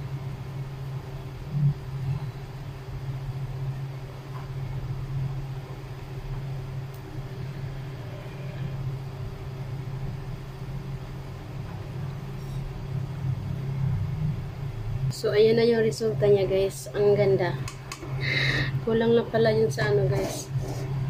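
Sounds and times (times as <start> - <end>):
gas burner low hum with hiss: 0.0 - 21.0.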